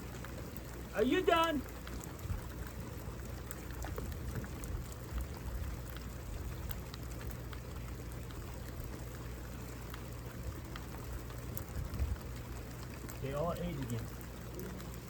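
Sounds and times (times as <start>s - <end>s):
raindrops ticking close by: 0.0s - 15.0s
steady rain: 0.0s - 15.0s.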